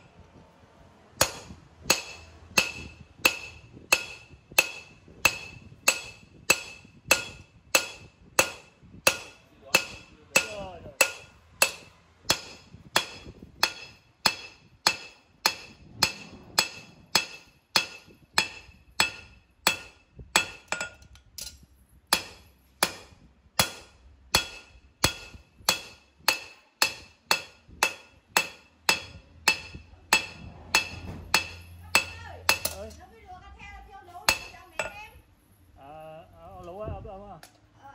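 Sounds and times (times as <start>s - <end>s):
hammer striking steel on anvil: 1.2s - 33.0s, 34.2s - 35.0s.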